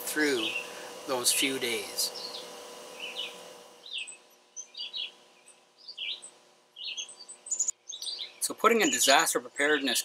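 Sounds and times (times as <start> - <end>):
small bird chirping: 0.4 - 0.8, 2.1 - 10.0.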